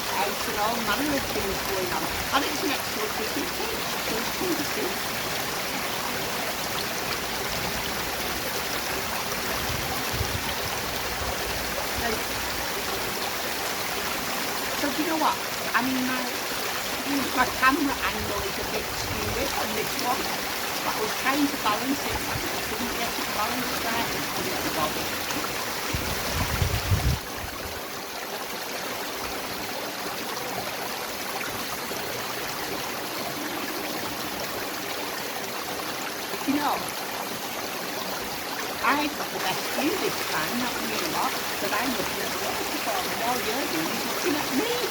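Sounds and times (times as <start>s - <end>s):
waterfall and stream rushing: 0.0s - 44.9s.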